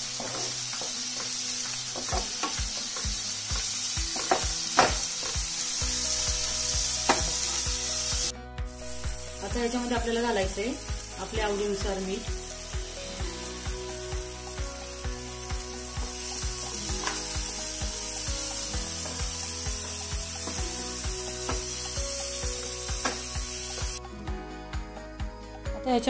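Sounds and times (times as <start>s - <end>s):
masala sizzling in oil: 0.0s - 24.0s
background music with clicking beat: 0.1s - 26.0s.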